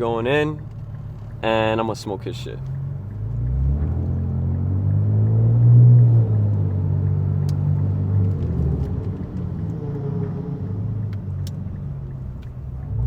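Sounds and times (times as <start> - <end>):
car engine droning in cabin: 0.0 - 13.0.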